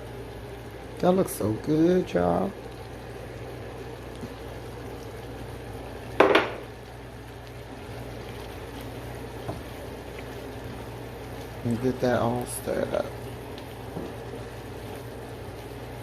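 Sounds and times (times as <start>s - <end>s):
sauce bubbling in a pot: 0.0s - 16.0s.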